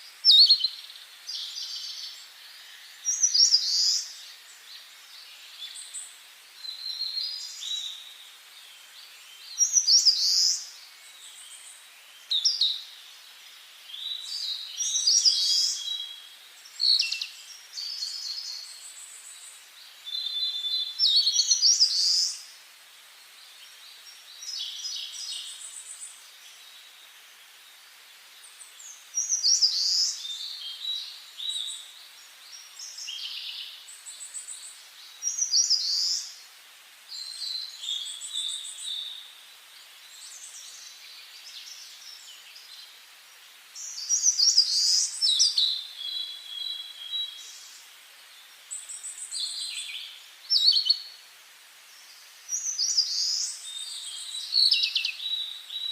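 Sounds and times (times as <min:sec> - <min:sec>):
faint background hiss: 0:00.0 - 0:55.9
songbirds singing: 0:00.0 - 0:55.9.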